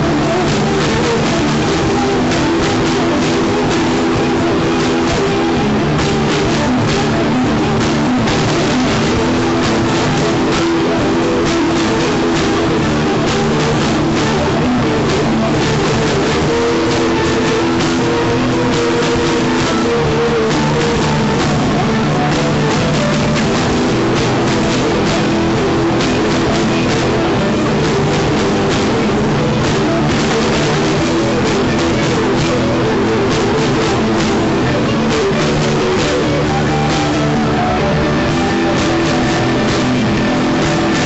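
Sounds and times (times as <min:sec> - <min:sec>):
drum kit beat: 0:00.0 - 0:41.0
electric guitar chords: 0:00.0 - 0:41.0.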